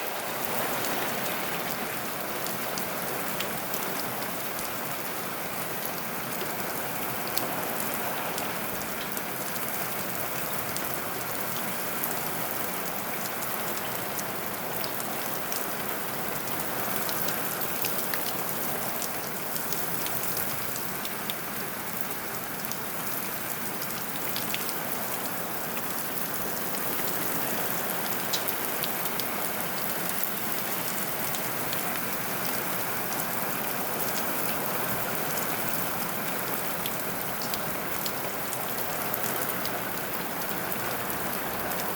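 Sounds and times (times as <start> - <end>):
heavy rain: 0.0 - 41.9
raindrops ticking on a surface: 0.3 - 41.9.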